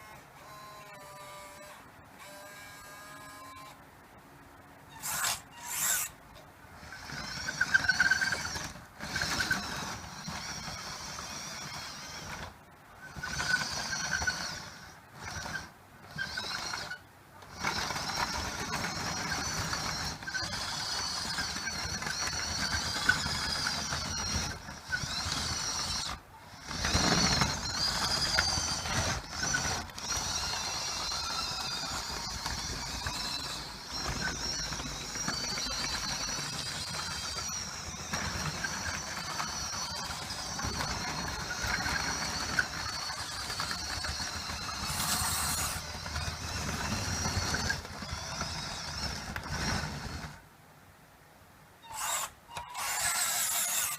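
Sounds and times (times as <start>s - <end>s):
small electric motors whining: 0.0s - 3.8s, 4.8s - 50.4s, 51.8s - 53.9s.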